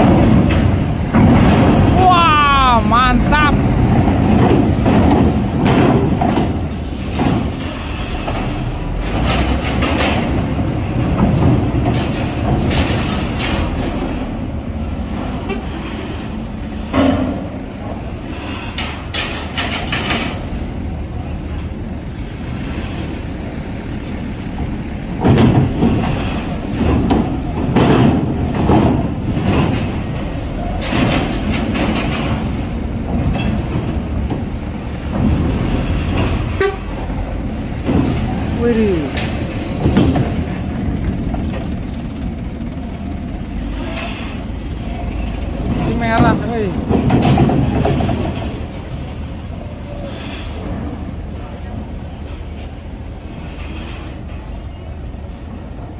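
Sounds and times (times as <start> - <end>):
vehicle engines running: 0.0 - 55.9.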